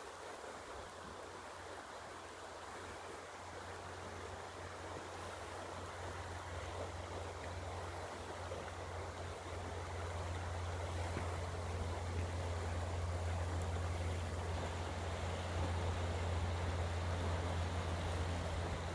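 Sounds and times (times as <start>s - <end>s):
river rushing over stones: 0.0s - 18.9s.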